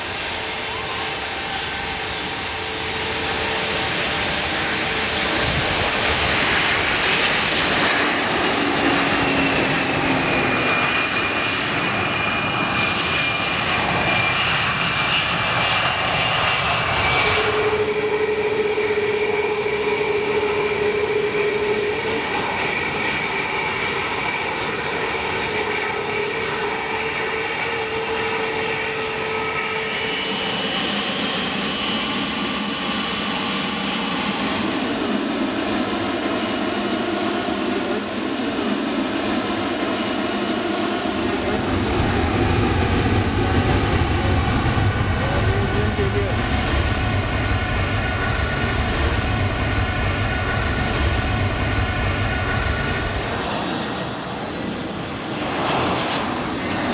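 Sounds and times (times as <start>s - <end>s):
jet engines on touchdown: 0.0s - 56.9s
jet engines whining: 0.0s - 56.9s.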